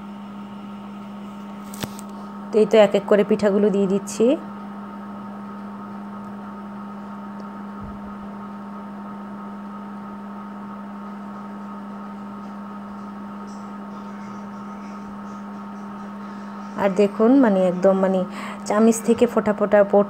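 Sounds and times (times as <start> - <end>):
constant electrical hum: 0.0 - 20.0.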